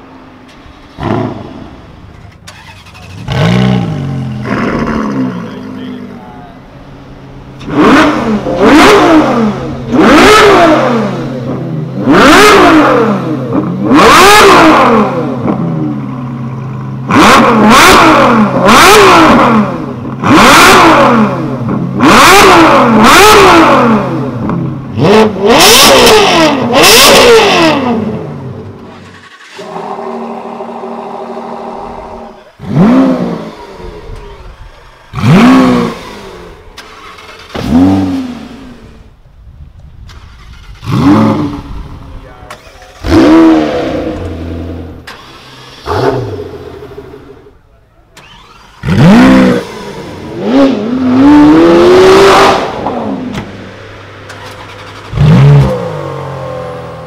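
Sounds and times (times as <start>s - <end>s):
sports car engine idling: 0.0s - 25.4s, 27.4s - 51.1s
car engine idling: 0.0s - 57.0s
sports car engine revving: 0.2s - 39.2s, 40.1s - 57.0s.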